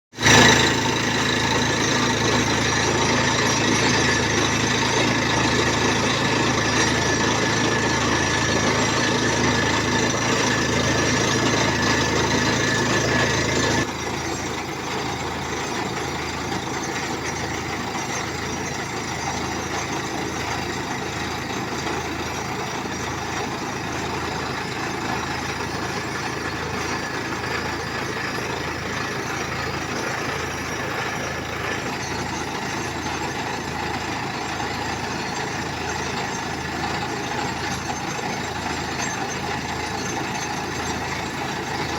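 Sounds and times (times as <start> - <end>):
drilling rig engine under load: 0.1 - 41.9.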